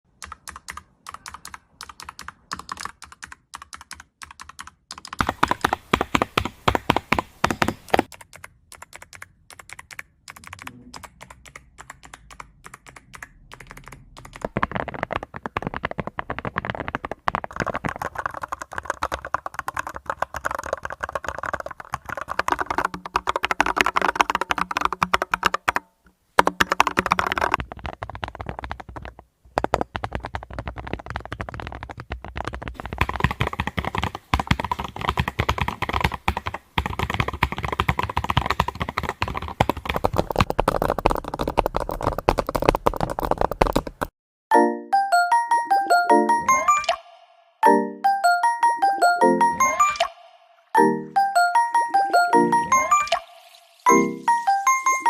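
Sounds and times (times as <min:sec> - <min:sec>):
mechanical keyboard typing: 0:00.1 - 0:44.1, 0:53.9 - 0:55.0.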